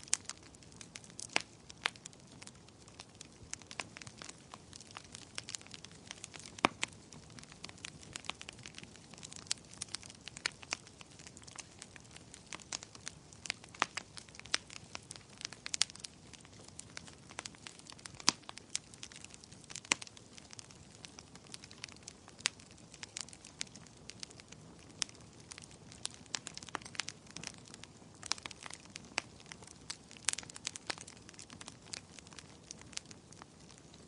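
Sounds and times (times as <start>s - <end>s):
soft steady hiss: 0.0s - 34.0s
wood fire crackling and popping: 0.0s - 34.0s.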